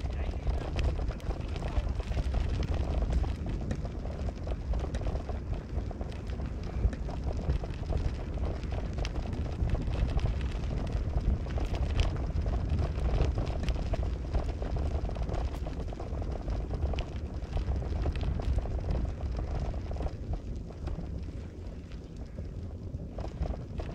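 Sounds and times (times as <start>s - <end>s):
small clicks and rattles: 0.0s - 23.9s.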